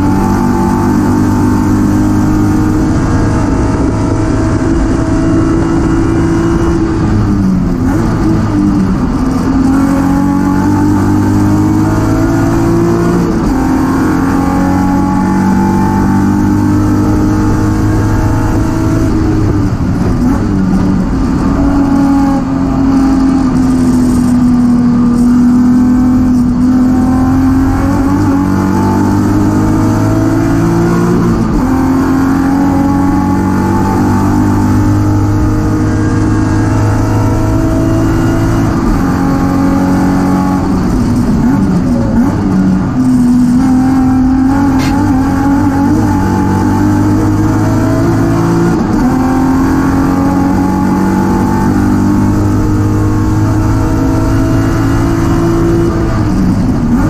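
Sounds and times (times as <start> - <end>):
car engine revving with gear changes: 0.0 - 57.0.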